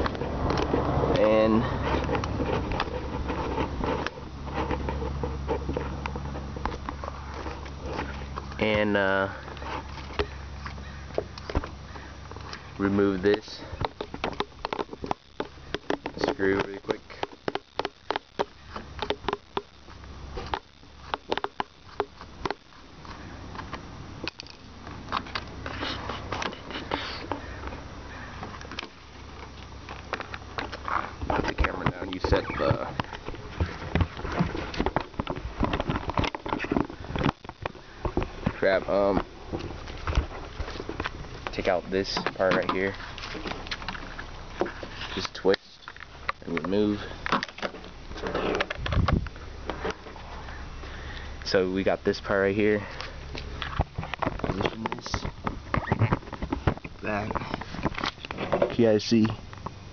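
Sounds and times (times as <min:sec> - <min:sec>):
plastic part scraping and rustling: 0:00.0 - 0:50.6, 0:52.8 - 0:59.2
steady low hum: 0:00.0 - 0:59.9.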